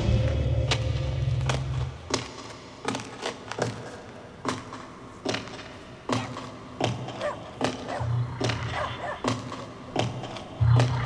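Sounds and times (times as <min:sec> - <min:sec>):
sharp knocks and thuds: 0:00.3 - 0:11.0.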